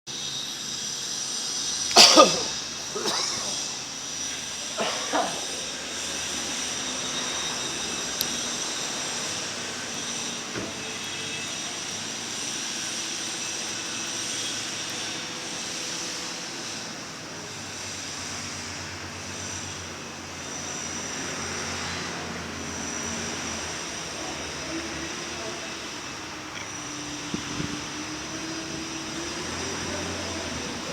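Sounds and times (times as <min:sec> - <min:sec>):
high steady whine: 0:00.1 - 0:30.9.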